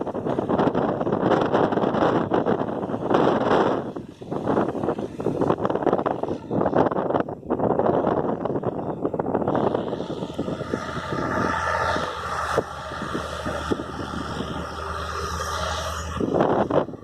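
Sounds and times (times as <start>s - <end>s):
engine humming: 0.0s - 17.0s
wind: 0.0s - 17.0s.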